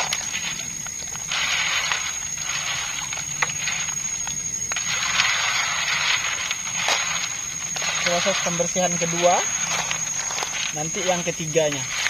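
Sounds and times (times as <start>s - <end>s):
water sloshing: 0.0s - 12.0s.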